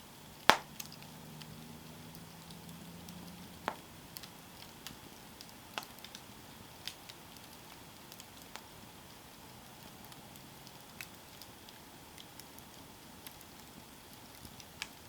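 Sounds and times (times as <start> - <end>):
campfire crackling and popping: 0.0 - 15.0
soft hiss of campfire: 0.0 - 15.0.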